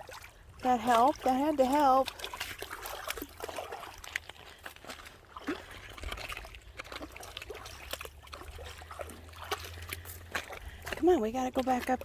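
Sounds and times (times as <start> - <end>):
shallow river water trickling: 0.0 - 12.0.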